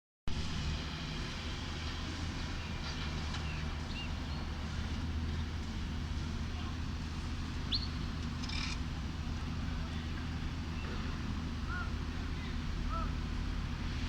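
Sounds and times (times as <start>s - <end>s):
low engine hum: 0.3s - 14.0s
street noise: 0.3s - 14.0s.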